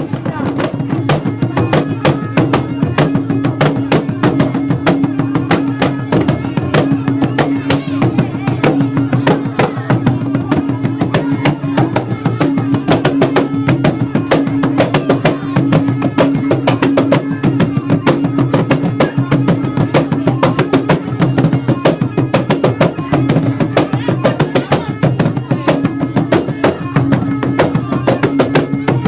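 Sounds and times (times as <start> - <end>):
fast dense drumming: 0.0 - 29.0.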